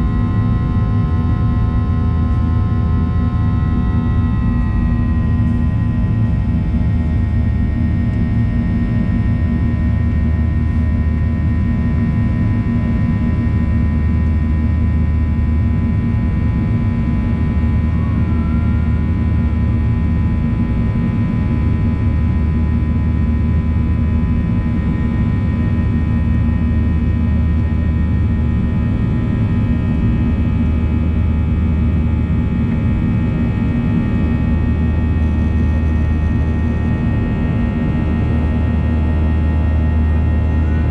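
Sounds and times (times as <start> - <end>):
jet engine roar: 0.0 - 40.9.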